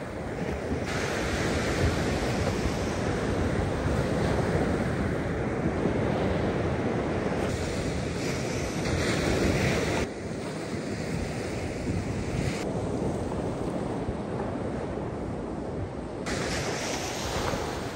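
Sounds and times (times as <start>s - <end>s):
waves washing up beach: 0.0s - 17.9s
wind buffeting microphone: 0.0s - 17.9s.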